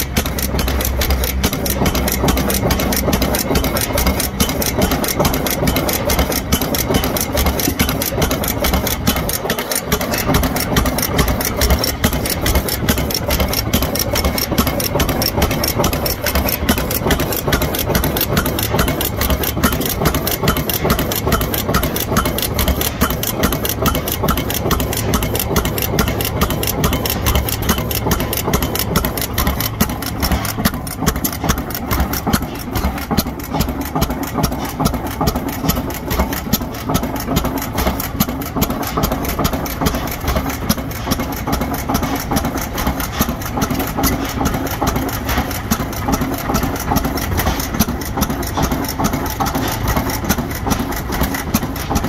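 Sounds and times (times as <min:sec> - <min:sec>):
hit-and-miss engine clattering: 0:00.0 - 0:52.0.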